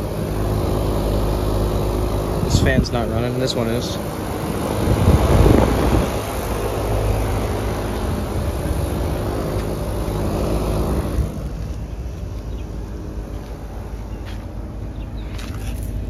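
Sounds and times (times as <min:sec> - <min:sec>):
air conditioning unit fan running: 0:00.0 - 0:16.0.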